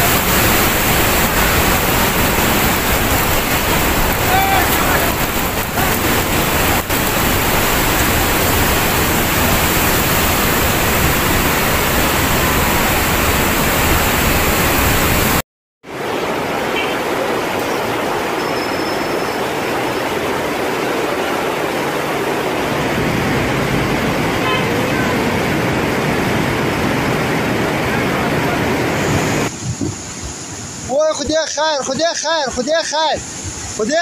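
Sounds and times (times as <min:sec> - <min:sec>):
muddy river torrent rushing: 0:00.0 - 0:34.0.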